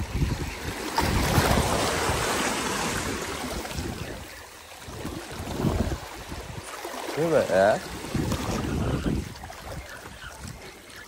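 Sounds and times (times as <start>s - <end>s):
waves splashing over rocks: 0.0s - 11.0s
wind rumbling on microphone: 0.0s - 11.0s.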